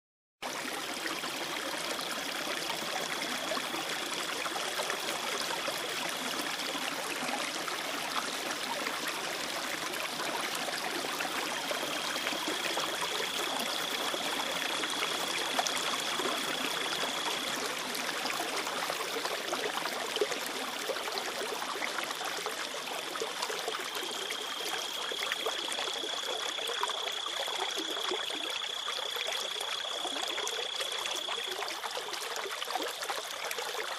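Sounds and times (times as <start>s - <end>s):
rushing water: 0.4s - 33.9s.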